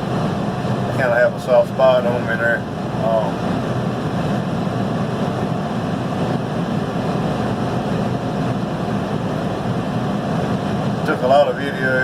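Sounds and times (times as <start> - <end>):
heavy diesel engine droning: 0.0 - 12.0.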